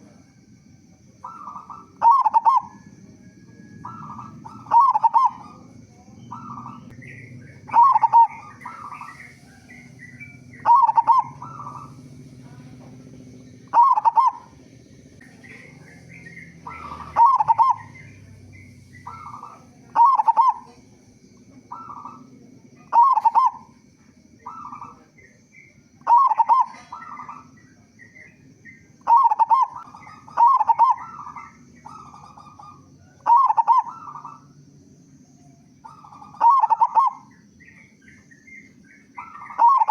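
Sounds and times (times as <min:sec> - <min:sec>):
dove cooing: 0:00.0 - 0:39.9
faint small bird chirping: 0:00.0 - 0:39.9.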